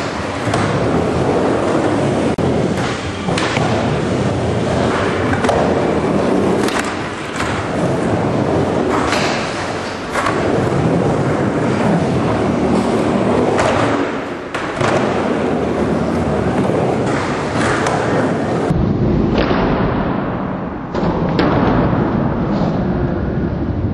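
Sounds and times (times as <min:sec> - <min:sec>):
skateboard wheels rolling on concrete: 0:00.0 - 0:19.4.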